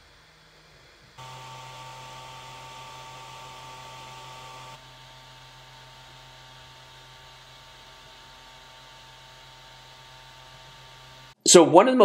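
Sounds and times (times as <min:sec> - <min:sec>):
cooling fans whirring: 0:01.1 - 0:11.4.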